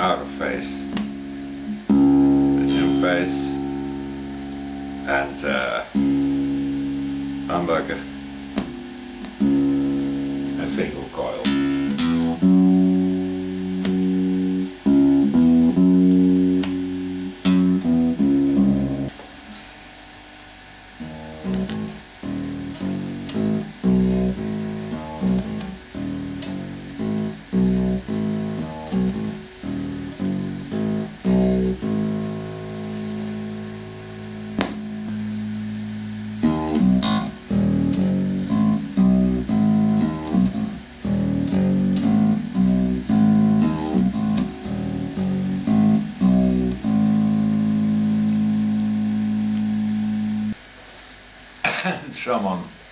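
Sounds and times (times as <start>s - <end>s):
electric guitar through amplifier: 0.0s - 52.0s.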